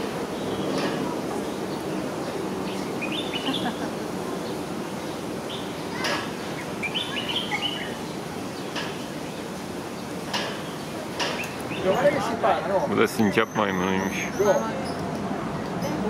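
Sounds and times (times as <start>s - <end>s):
steady background murmur: 0.0s - 16.0s.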